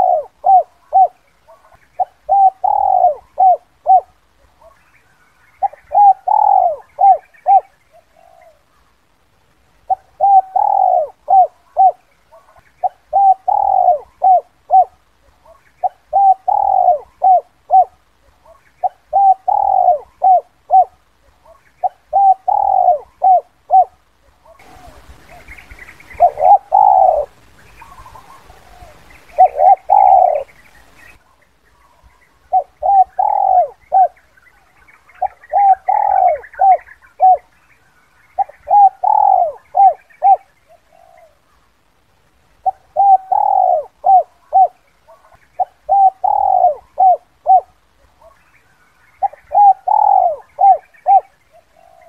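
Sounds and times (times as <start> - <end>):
dove cooing: 0.0 - 8.9, 9.8 - 37.6, 38.3 - 41.7, 42.6 - 48.4, 49.1 - 52.0
faint hiss: 0.0 - 52.0.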